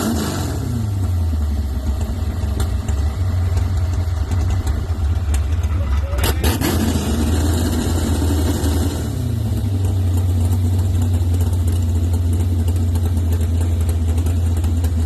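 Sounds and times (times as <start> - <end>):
truck engine idling: 0.8 - 15.0.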